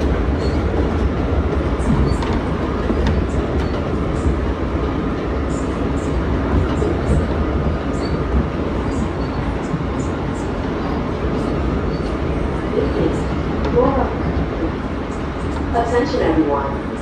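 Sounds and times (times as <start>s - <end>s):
rumble of wheels on rail: 0.0s - 17.0s.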